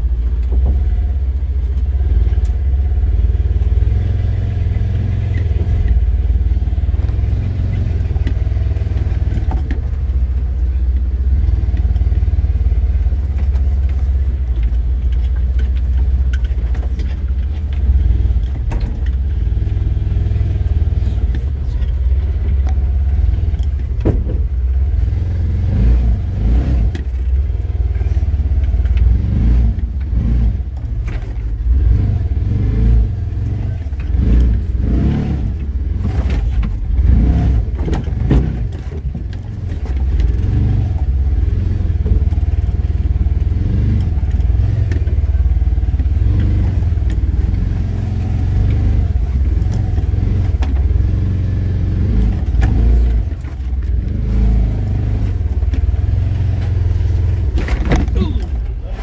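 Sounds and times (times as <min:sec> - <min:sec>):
utility vehicle engine droning: 0:00.0 - 0:59.0
vehicle rattling and clattering: 0:00.0 - 0:59.0.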